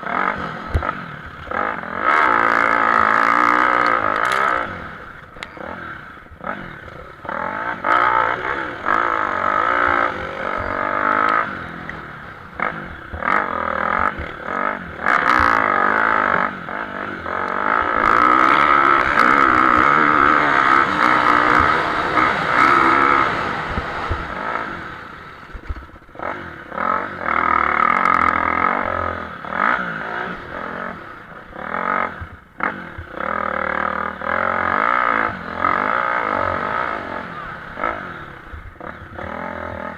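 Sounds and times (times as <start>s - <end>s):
motocross bikes revving: 0.0s - 39.9s.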